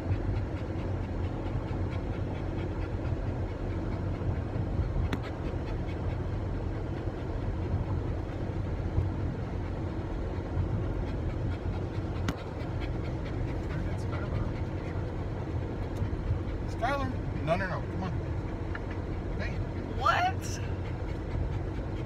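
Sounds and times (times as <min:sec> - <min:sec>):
car road and engine rumble: 0:00.0 - 0:22.0
dog panting: 0:00.0 - 0:22.0.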